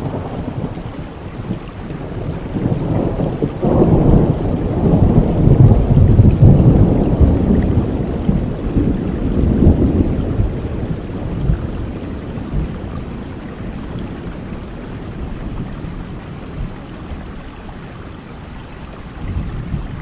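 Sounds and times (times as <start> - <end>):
low rumble of thunder: 0.0 - 20.0
steady rain falling: 0.0 - 20.0.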